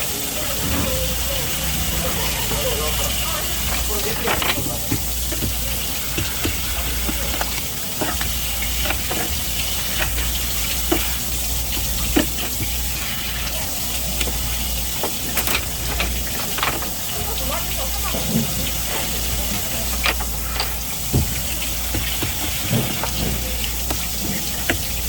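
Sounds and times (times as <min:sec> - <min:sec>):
running water hiss: 0:00.0 - 0:25.0.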